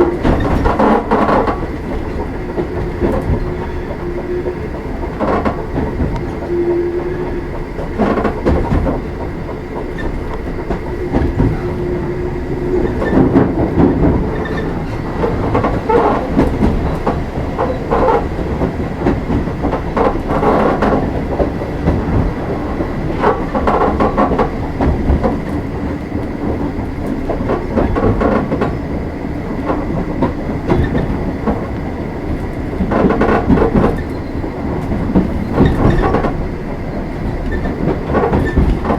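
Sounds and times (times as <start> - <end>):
clattering over rail joints: 0.0 - 38.9
train wheels rumbling on rail: 0.0 - 38.9.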